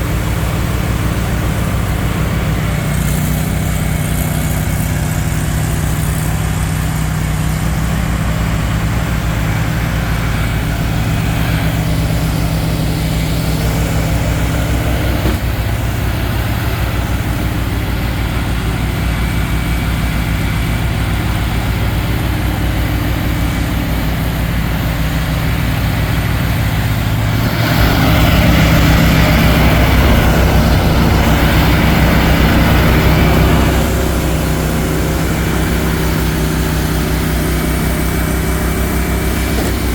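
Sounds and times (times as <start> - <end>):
snowblower rushing noise: 0.0 - 39.9
tractor engine running: 0.0 - 39.9.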